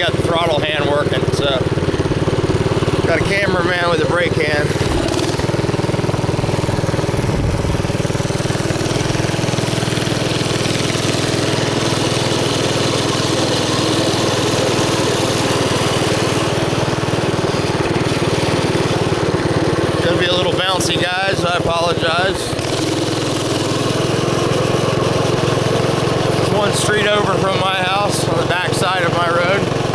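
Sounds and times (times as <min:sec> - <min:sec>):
small engine buzzing: 0:00.0 - 0:29.9.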